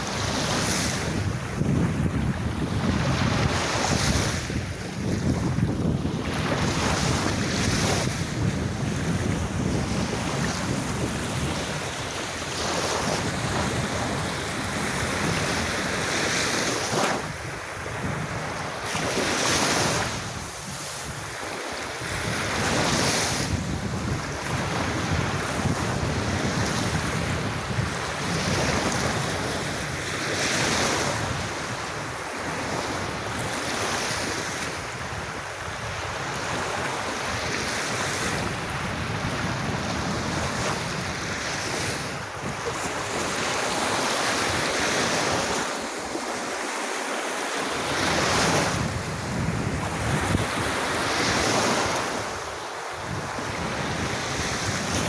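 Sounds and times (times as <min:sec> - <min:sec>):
wind rumbling on microphone: 0:00.0 - 0:46.6, 0:47.7 - 0:55.0
ocean waves washing onto beach: 0:00.0 - 0:55.0.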